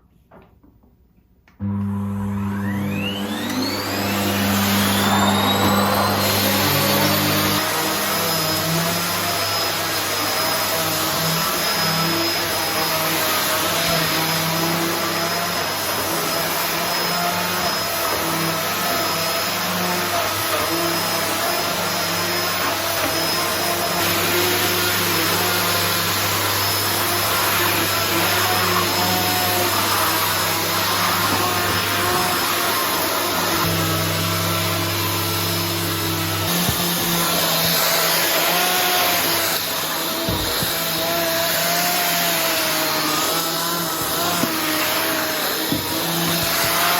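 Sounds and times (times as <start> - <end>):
vacuum cleaner running: 1.5 - 46.9.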